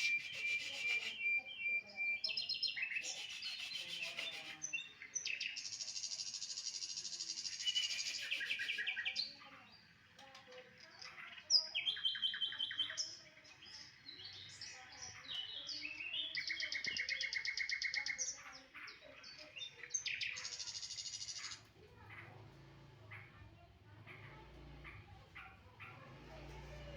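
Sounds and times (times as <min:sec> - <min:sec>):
songbird trilling: 0:00.0 - 0:10.0, 0:10.6 - 0:22.3.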